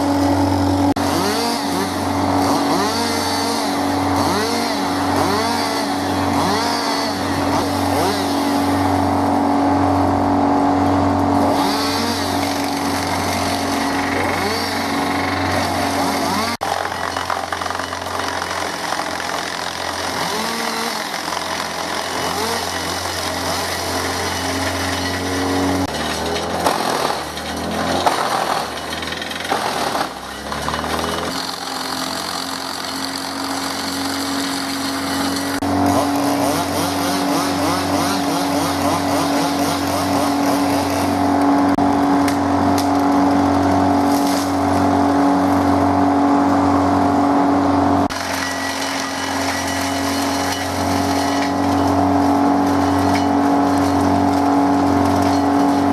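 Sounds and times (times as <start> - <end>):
chainsaw cutting brush: 0.0 - 55.9
wood chipper engine drone: 0.0 - 55.9.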